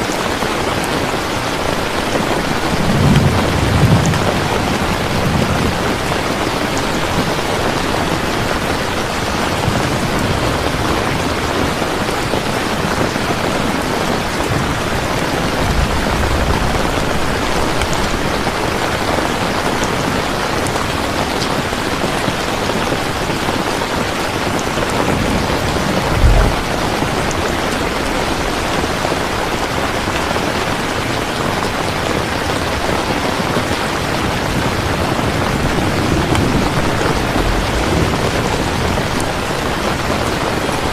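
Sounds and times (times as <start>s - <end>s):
dense rain falling: 0.0s - 40.9s
thunder rumbling: 0.9s - 40.9s.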